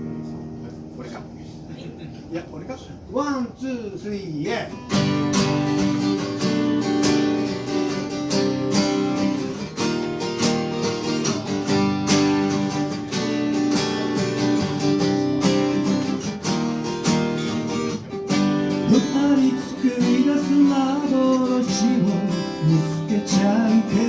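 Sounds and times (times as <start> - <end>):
acoustic guitar strumming chords: 0.0 - 3.6, 4.4 - 24.0.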